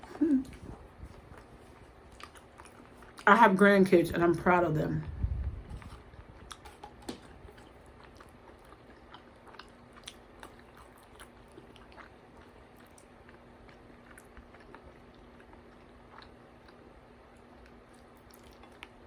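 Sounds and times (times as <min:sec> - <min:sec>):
person chewing food: 0:00.0 - 0:03.3, 0:05.0 - 0:19.0.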